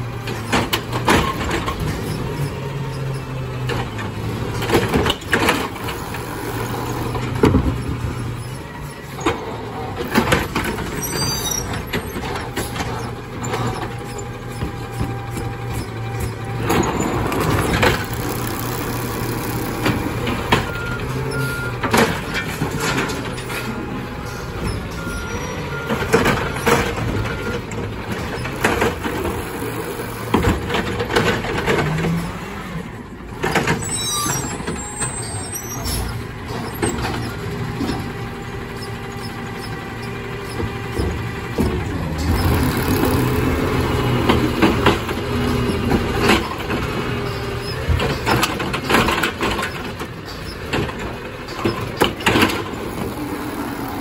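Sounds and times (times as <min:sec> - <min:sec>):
garbage truck running: 0:00.0 - 0:54.0.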